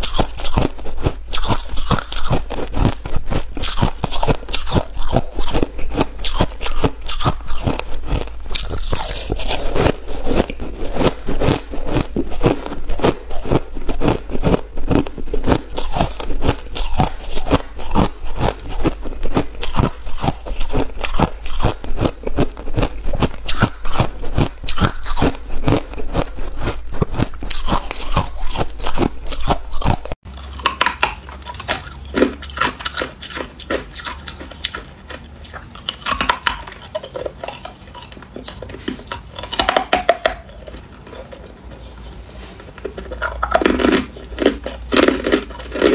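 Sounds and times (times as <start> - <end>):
person crunching ice: 0.0 - 36.9, 43.0 - 45.9.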